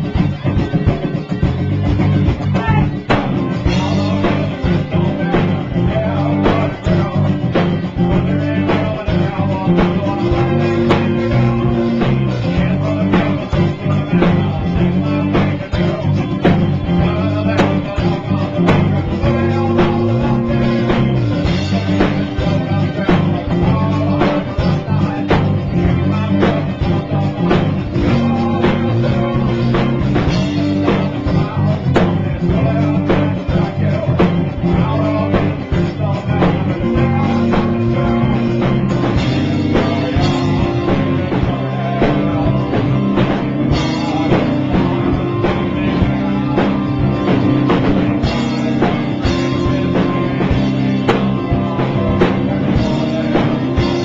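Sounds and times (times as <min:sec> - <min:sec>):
rock music: 0:00.0 - 0:54.0.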